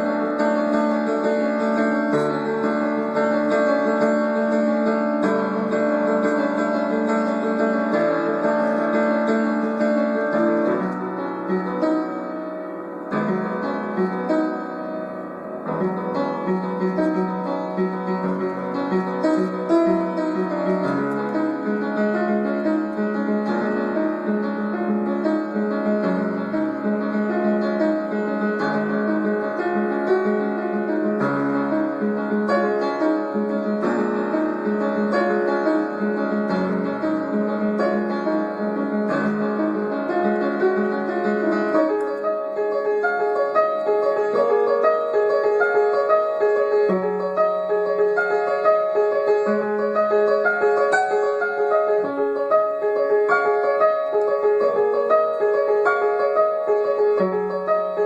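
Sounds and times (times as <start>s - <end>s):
solo piano: 0.0s - 58.0s.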